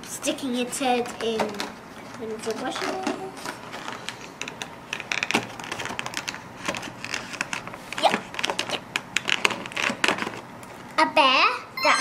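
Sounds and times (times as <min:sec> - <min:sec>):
crinkles: 0:01.0 - 0:10.9.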